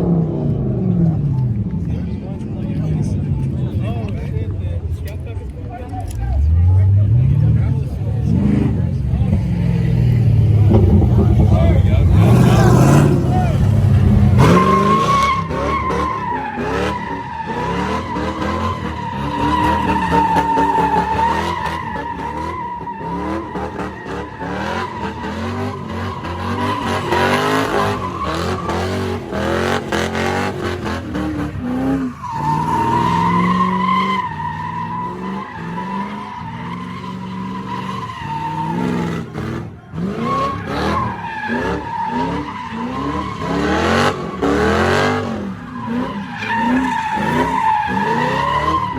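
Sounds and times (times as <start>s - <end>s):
car engine revving: 0.0s - 48.9s
car tires squealing: 8.2s - 48.9s.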